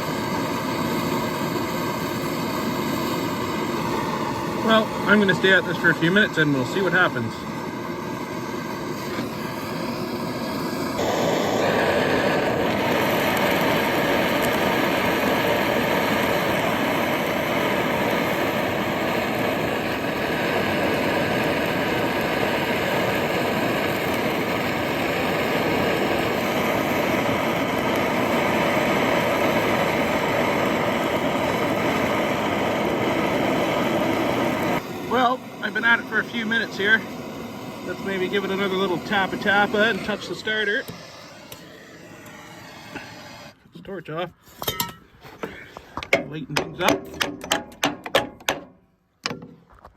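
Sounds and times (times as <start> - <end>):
blowtorch flame burning: 0.0 - 43.6.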